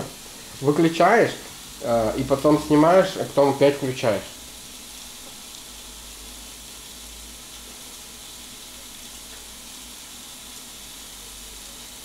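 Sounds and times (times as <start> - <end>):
meat sizzling in contact grill: 0.0 - 12.0.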